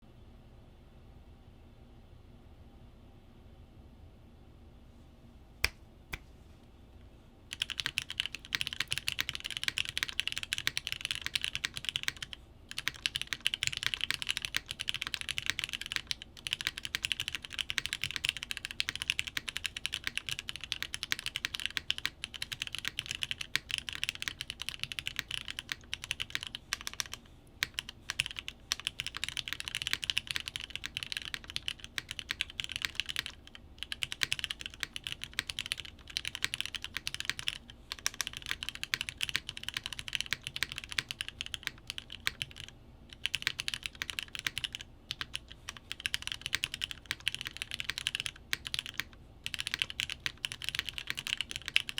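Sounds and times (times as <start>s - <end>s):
mechanical keyboard typing: 7.5s - 51.9s.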